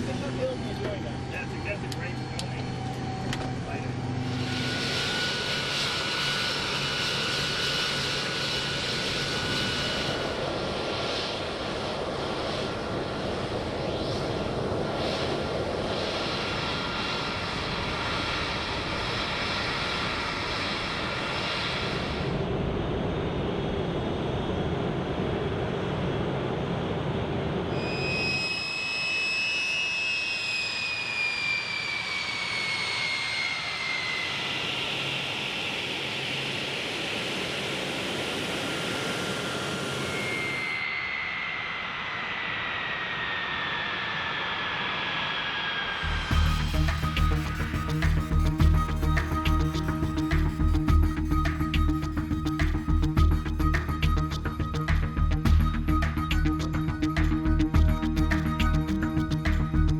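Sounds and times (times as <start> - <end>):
aircraft turbine engine whine: 0.0 - 59.9.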